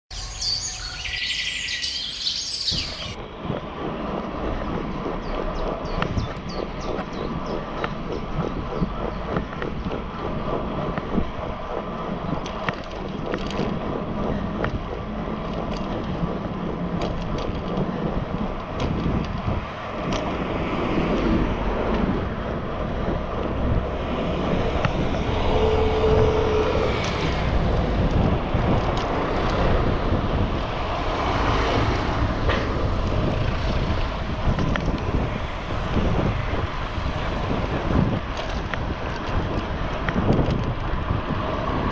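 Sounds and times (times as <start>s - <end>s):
bike rolling on asphalt: 0.1s - 41.9s
wind buffeting microphone: 0.1s - 41.9s.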